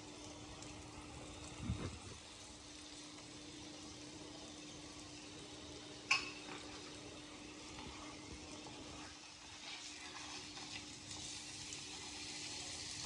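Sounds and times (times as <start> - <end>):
flatbread sizzling in butter: 0.0 - 13.0.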